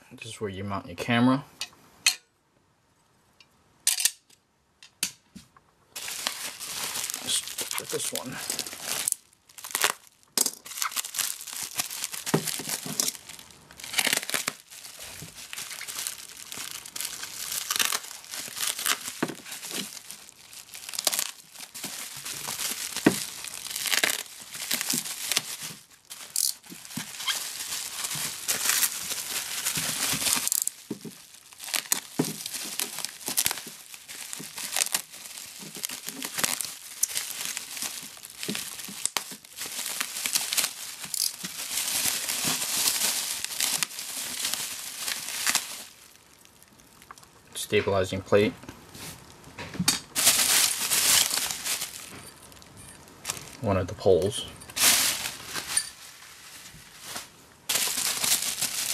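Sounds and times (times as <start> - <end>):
bubble wrap crinkling: 5.9 - 47.5, 48.4 - 58.9.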